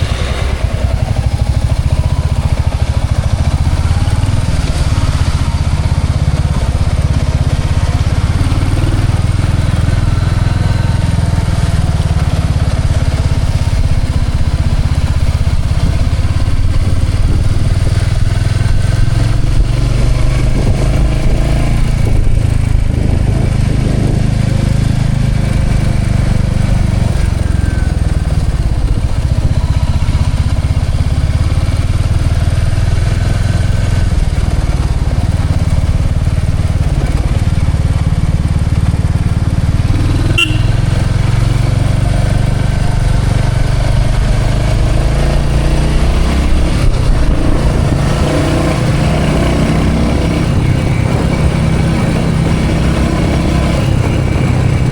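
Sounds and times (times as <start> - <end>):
motorcycle engine rumbling: 0.0 - 54.9.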